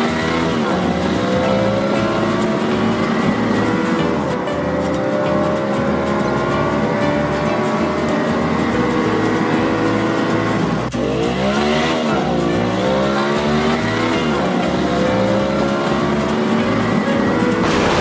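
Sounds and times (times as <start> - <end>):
car engine drone revving: 0.0 - 18.0.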